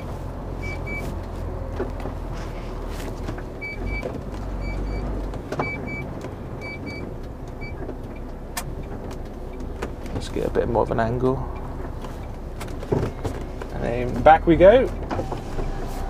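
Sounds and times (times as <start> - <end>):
diesel engine running low: 0.0 - 16.0.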